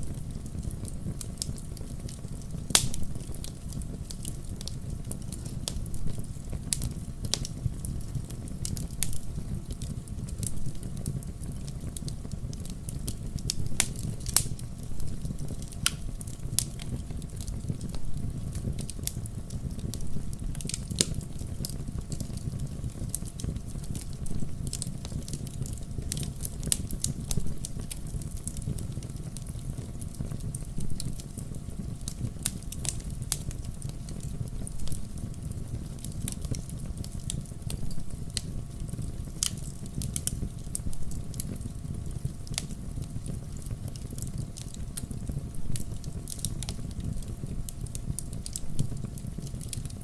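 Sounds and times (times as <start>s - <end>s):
low rumble of flames: 0.0s - 50.0s
wood crackling and popping: 0.0s - 50.0s.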